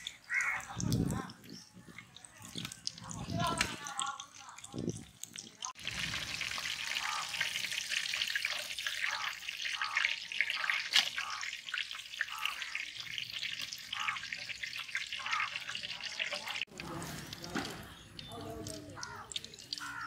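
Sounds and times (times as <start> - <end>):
oil sizzling and crackling: 0.0 - 20.0.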